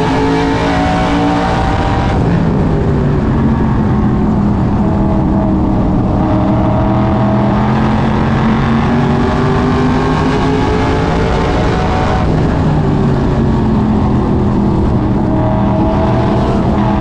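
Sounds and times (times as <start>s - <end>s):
race car engine running hard: 0.0s - 17.0s
wind and road noise: 0.0s - 17.0s.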